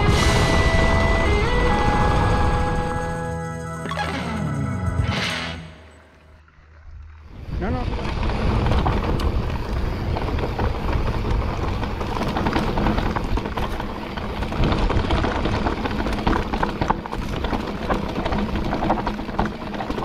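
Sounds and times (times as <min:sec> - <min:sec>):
bike rattling: 0:00.0 - 0:20.0.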